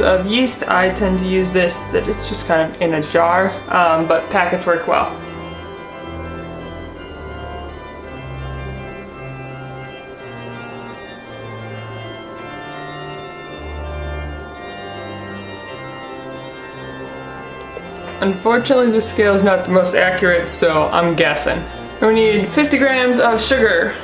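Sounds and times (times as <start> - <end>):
slow bass line: 0.0 - 23.7
organ-like chords: 0.0 - 24.0.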